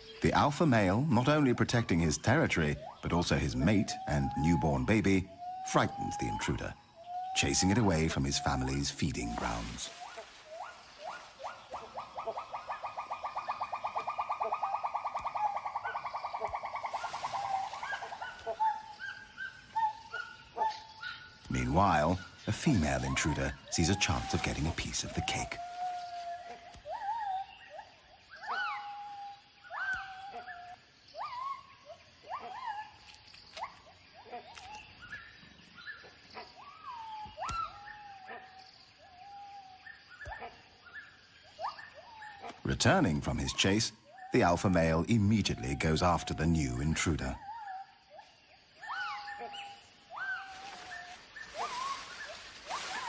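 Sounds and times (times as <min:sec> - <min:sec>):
gibbons whooping calls: 0:02.6 - 0:35.2, 0:35.8 - 0:53.0.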